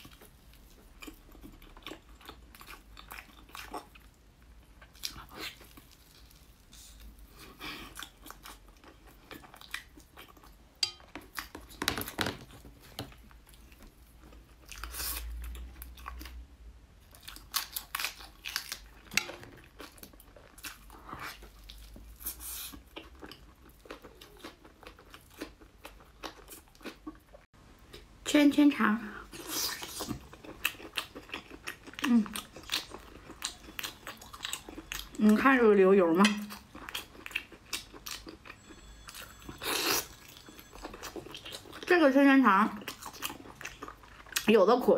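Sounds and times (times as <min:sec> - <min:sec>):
wet chewing and smacking: 0:00.0 - 0:16.4, 0:17.0 - 0:28.1, 0:29.3 - 0:44.6.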